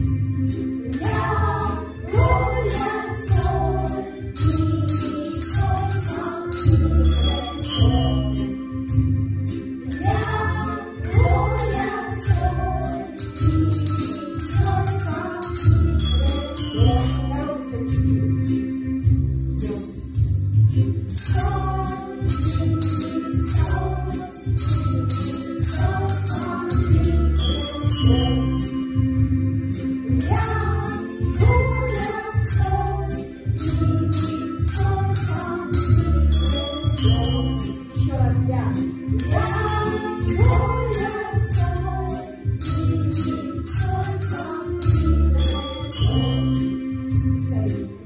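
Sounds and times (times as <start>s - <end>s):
handbells ringing: 0.0s - 20.3s, 21.0s - 48.0s
backing music with steady beat: 0.0s - 48.0s.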